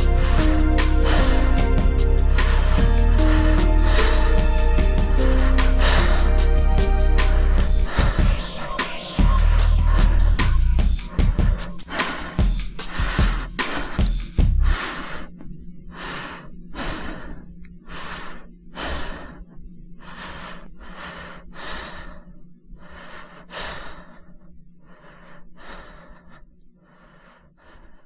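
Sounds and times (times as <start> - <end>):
person panting: 0.0 - 28.0.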